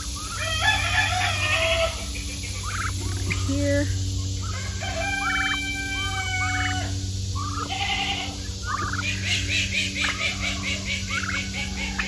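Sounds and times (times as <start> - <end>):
turkeys gobbling: 0.0 - 3.5, 4.1 - 12.0
steady low hum: 0.0 - 12.0.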